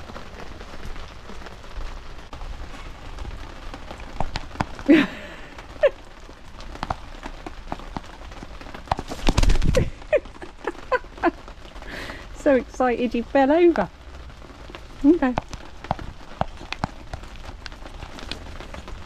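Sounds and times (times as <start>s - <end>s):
hen flapping wings: 0.0s - 12.2s, 14.6s - 19.0s
steady rain: 0.0s - 19.0s.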